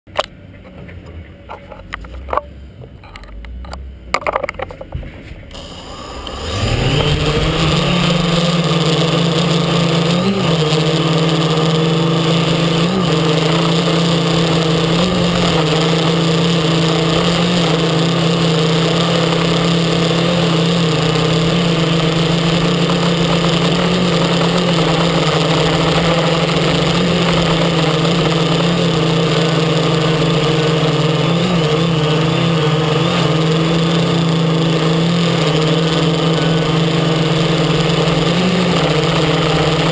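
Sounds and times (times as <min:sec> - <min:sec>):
quadcopter motors humming: 0:05.5 - 0:39.9.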